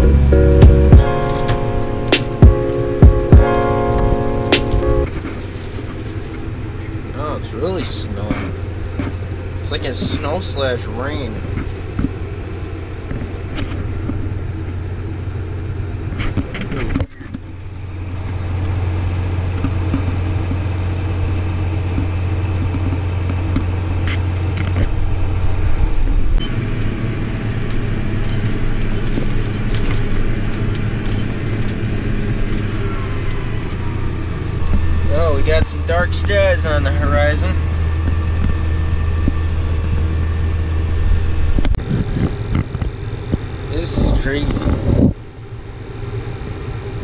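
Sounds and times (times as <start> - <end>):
farm vehicle engine droning: 0.0 - 47.0.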